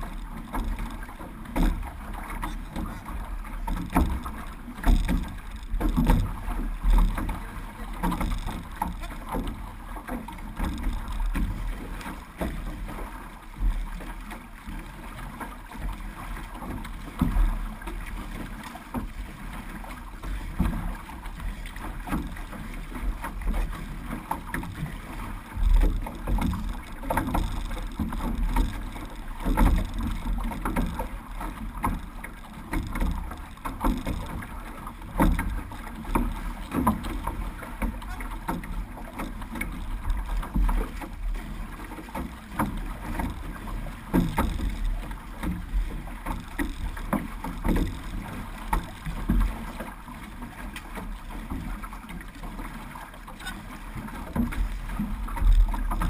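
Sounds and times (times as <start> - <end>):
paddle stroke surges: 0.0 - 56.0
water splashing along hull: 0.0 - 56.0.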